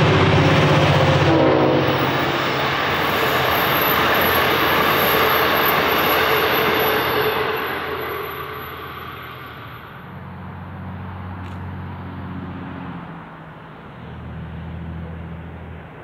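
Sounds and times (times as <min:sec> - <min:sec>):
distant locomotive engine drone: 0:00.0 - 0:16.0
passing train noise: 0:00.0 - 0:16.0.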